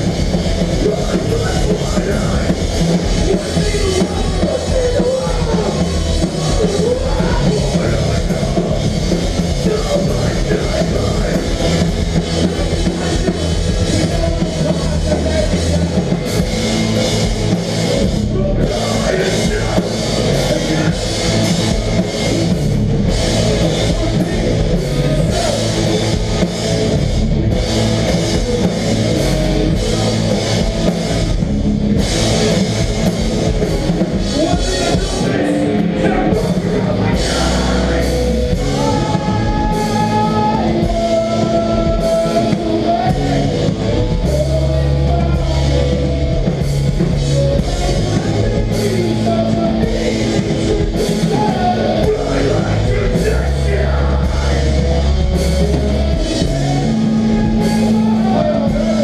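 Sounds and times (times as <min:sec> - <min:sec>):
bass guitar: 0:00.0 - 0:59.0
distorted electric guitars: 0:00.0 - 0:59.0
drum kit with cymbals: 0:00.0 - 0:59.0.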